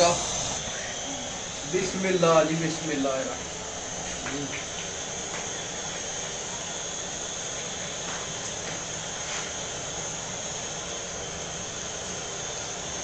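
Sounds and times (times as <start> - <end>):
gas burner rushing: 0.0 - 13.0
oil sizzling and bubbling: 1.3 - 13.0.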